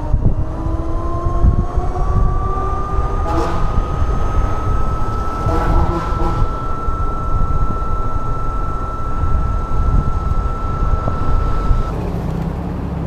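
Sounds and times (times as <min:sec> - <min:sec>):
thin high whine: 0:00.0 - 0:11.9
wind buffeting microphone: 0:00.0 - 0:12.1.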